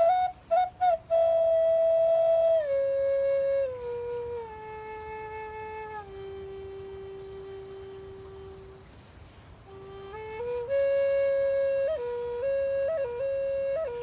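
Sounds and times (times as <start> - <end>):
flute playing slow melody: 0.0 - 14.0.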